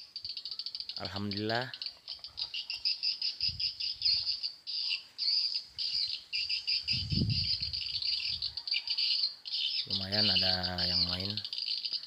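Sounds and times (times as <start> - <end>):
birds twittering: 0.0 - 12.0.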